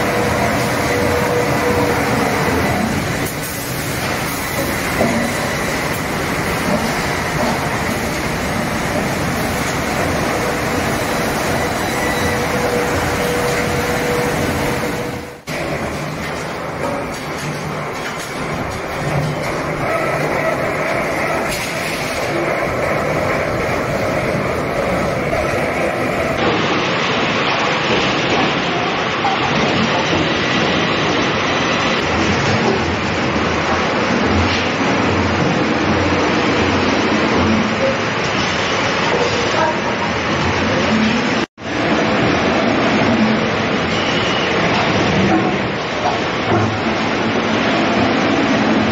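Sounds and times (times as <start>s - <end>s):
debarking machinery running: 0.0s - 48.9s.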